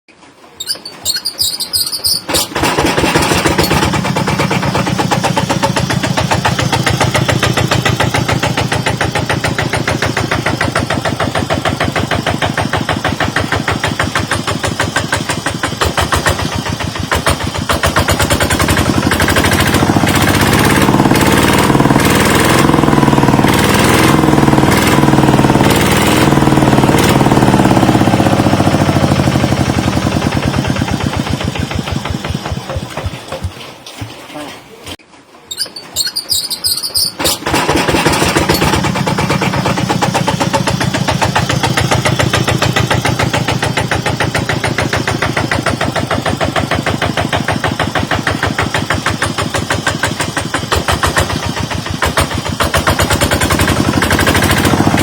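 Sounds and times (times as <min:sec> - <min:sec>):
diesel engine starting and running: 0:00.1 - 0:34.1, 0:34.8 - 0:55.0.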